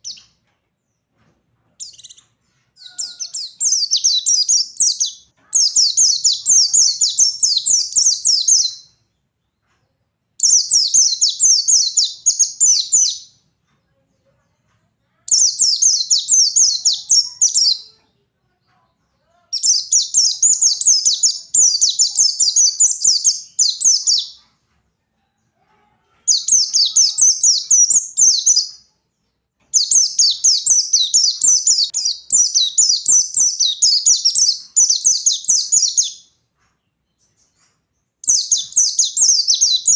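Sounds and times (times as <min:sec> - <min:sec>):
bird twittering song: 0:00.0 - 0:01.1, 0:01.8 - 0:09.6, 0:10.4 - 0:13.4, 0:15.3 - 0:18.0, 0:19.5 - 0:24.5, 0:26.3 - 0:28.9, 0:29.6 - 0:39.9.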